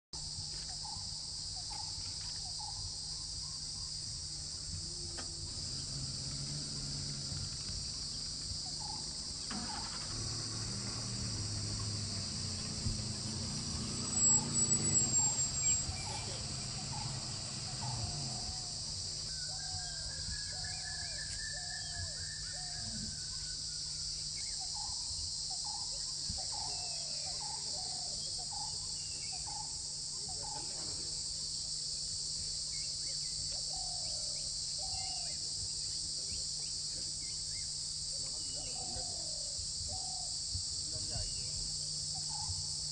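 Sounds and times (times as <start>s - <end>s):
insects droning: 0.2s - 42.9s.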